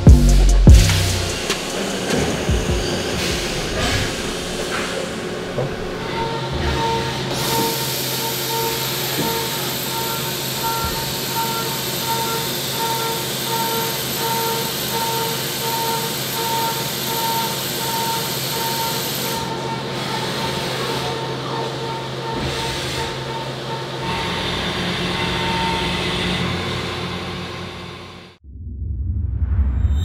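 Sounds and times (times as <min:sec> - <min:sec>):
machine spindle whirring: 0:01.2 - 0:28.3.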